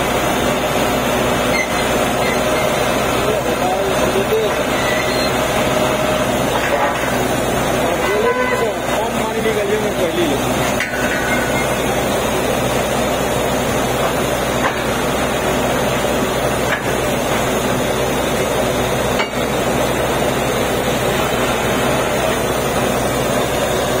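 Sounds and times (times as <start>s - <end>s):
drilling rig engine hum: 0.0s - 24.0s.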